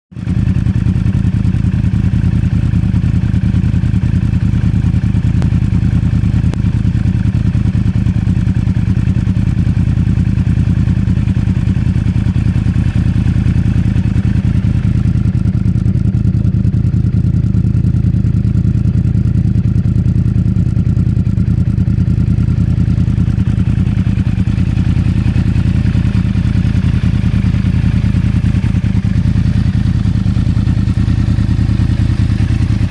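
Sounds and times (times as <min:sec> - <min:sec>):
motorcycle engine idling: 0:00.2 - 0:32.9.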